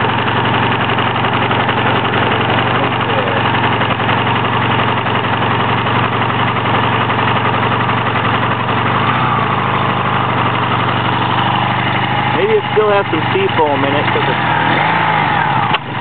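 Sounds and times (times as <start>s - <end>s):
engine running at fast idle: 0.0s - 16.0s.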